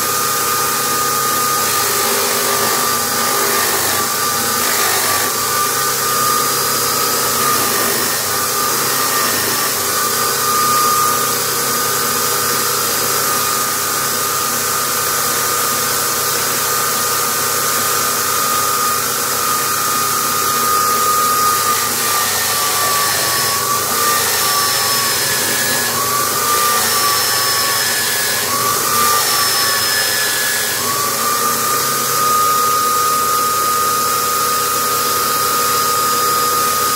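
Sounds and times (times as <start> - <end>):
electric drill whining: 0.0 - 36.9.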